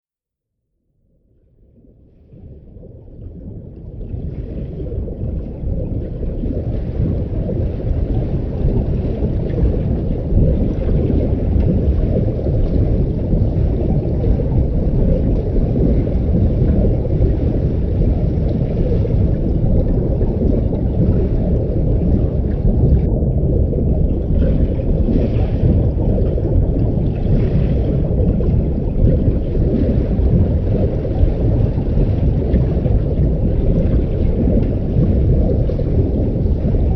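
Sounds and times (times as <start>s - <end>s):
underwater low rumble: 0.5s - 36.9s.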